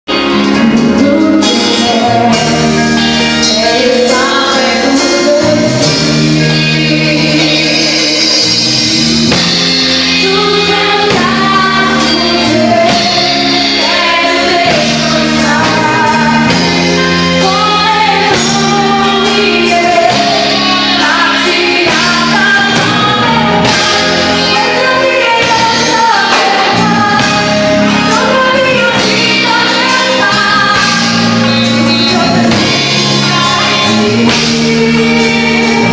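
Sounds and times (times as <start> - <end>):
gospel band playing: 0.0 - 35.9
people singing: 0.1 - 35.9.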